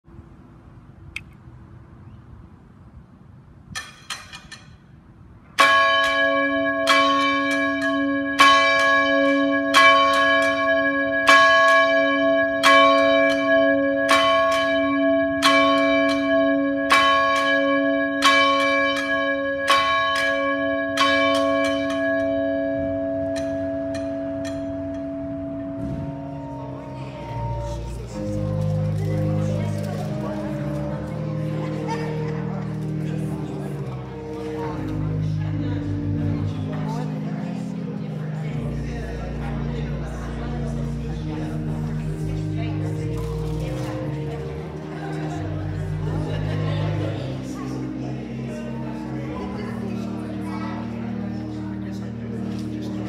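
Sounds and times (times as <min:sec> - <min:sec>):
church bell tolling: 0:05.6 - 0:53.0.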